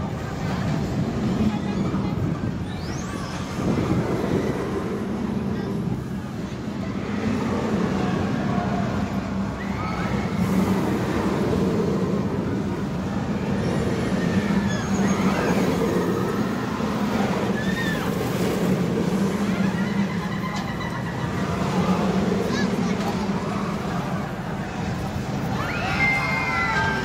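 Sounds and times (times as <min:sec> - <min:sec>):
roller coaster rumble and hum: 0:00.0 - 0:27.0.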